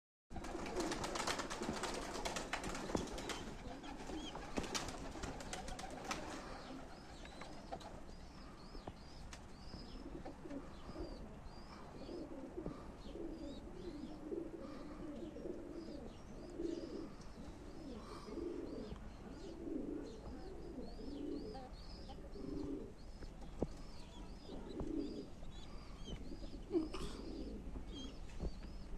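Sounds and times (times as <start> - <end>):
pigeons cooing: 0.4 - 9.0, 9.6 - 28.9.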